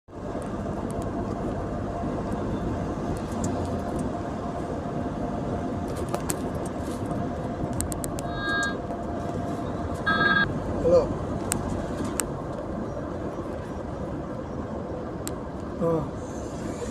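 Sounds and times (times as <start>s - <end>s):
car engine and road noise: 0.1s - 16.9s.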